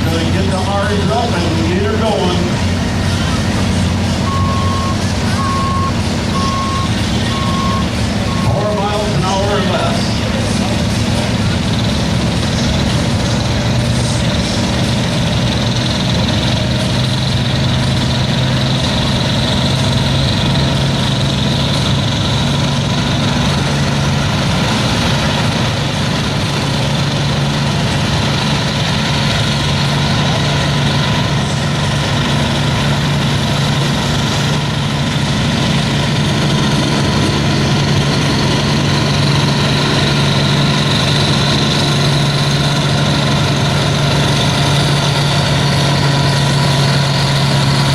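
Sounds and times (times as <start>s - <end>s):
tractor engine idling: 0.0s - 47.9s.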